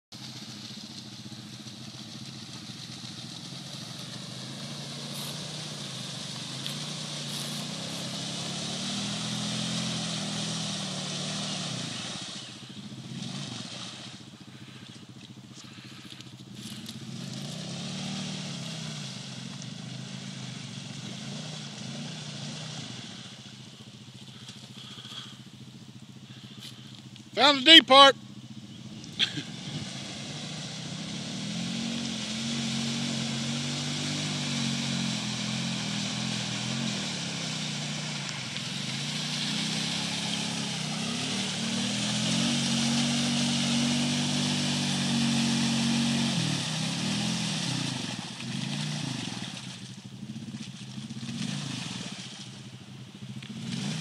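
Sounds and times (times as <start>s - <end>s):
atv engine revving: 0.2s - 54.0s.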